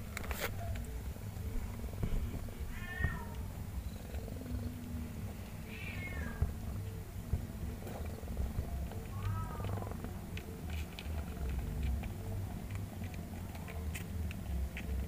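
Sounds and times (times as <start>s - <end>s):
cat purring: 0.6s - 15.0s.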